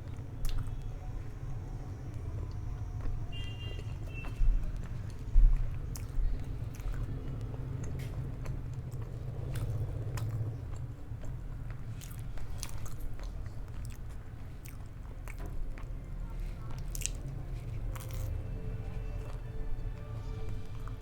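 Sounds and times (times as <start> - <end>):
person chewing food: 0.0 - 0.9, 1.9 - 21.0.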